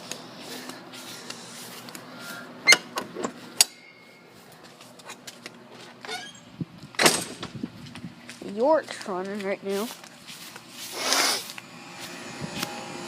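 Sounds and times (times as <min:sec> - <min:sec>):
air conditioner units humming: 0:00.0 - 0:13.0.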